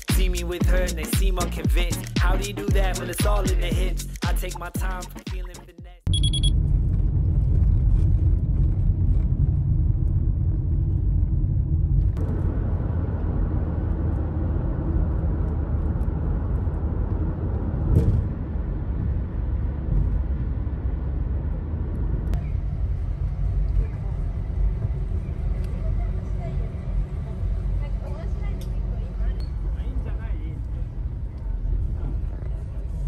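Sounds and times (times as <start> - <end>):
road and engine rumble in car: 6.1 - 33.0.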